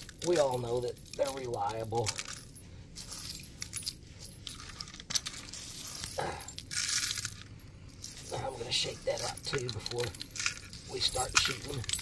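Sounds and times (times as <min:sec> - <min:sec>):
shell casings and gravel clinking: 0:00.0 - 0:12.0.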